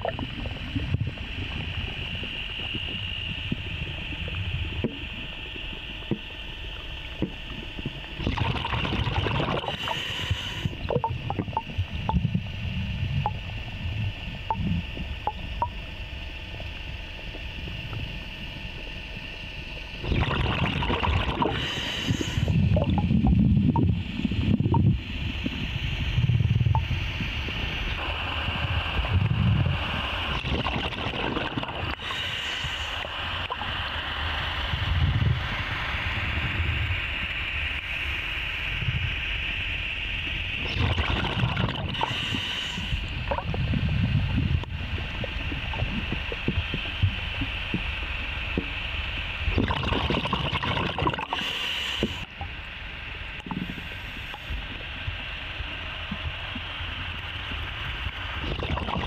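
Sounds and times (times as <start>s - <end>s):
steady hiss: 0.0s - 20.0s, 21.2s - 30.6s, 31.6s - 40.8s, 41.6s - 49.6s, 51.2s - 58.4s
muffled scuba bubbles gurgling: 0.0s - 38.0s, 40.3s - 52.6s, 56.0s - 59.0s.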